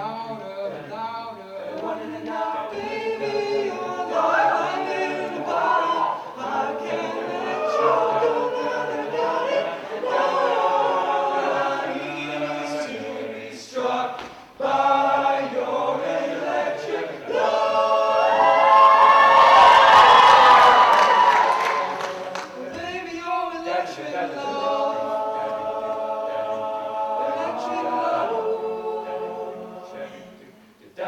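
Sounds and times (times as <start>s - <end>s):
a cappella group singing: 0.0s - 31.0s.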